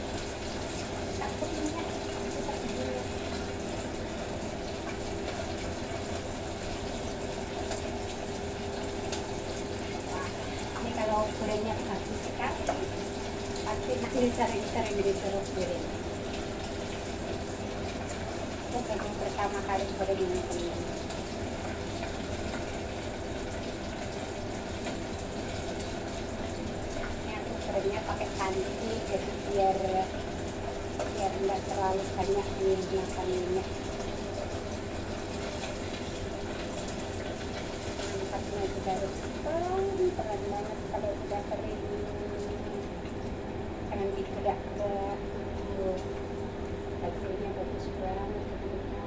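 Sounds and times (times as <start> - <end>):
oil sizzling: 0.0 - 47.2
range hood fan humming: 0.0 - 49.0.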